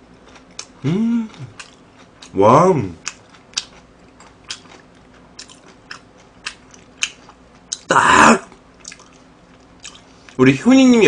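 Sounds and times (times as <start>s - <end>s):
chewing and crunching food: 0.0s - 10.4s.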